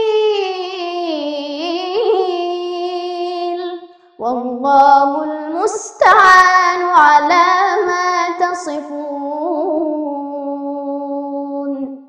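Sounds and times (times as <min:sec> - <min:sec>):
girl chanting recitation: 0:00.0 - 0:12.0.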